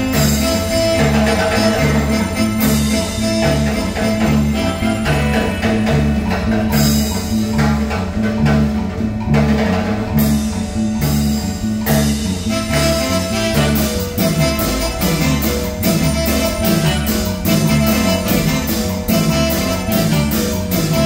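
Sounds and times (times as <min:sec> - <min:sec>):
marimba dance tune: 0:00.0 - 0:21.0.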